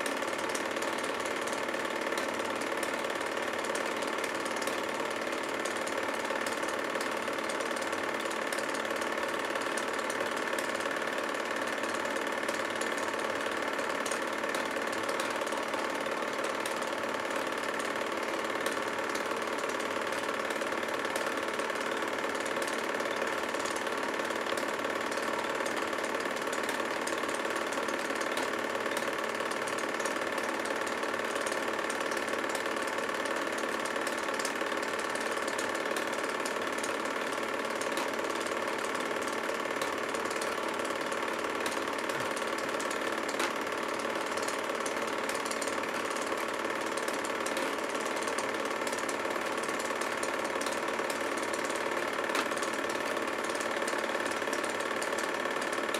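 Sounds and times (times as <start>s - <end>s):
film projector whirring: 0.0s - 55.9s
rapid projector ticking: 0.0s - 55.9s.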